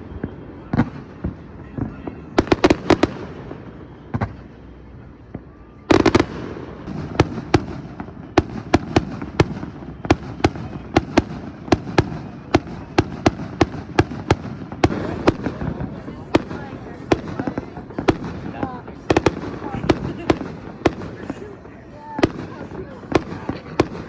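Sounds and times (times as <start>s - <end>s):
fireworks bangs: 0.0s - 24.0s
fireworks crackle and rumble: 0.0s - 24.0s.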